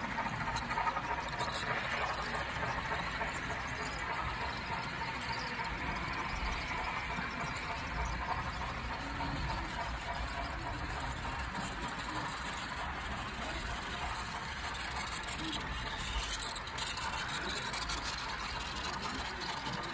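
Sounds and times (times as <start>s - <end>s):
model train wheels rolling: 0.0s - 19.9s.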